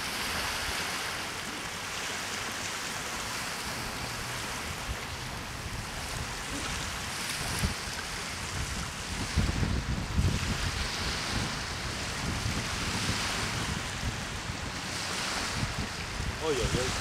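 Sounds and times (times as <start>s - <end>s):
small waves washing onto shore: 0.0s - 17.0s
steady wind: 0.0s - 17.0s.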